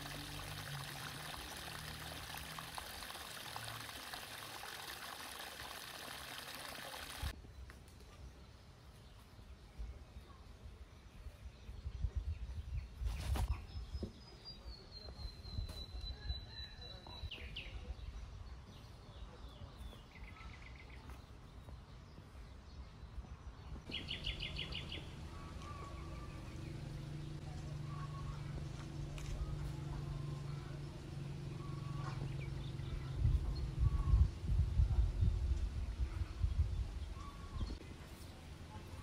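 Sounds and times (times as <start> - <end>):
birds singing: 4.6 - 39.0.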